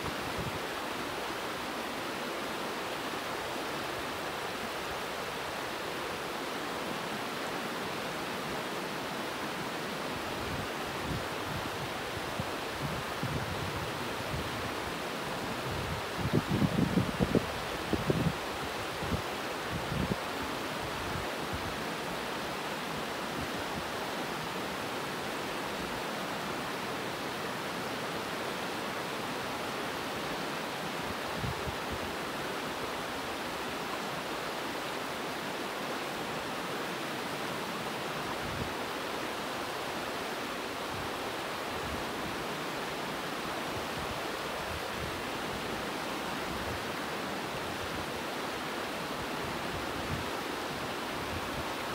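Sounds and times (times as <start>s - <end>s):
river rushing over rocks: 0.0s - 51.9s.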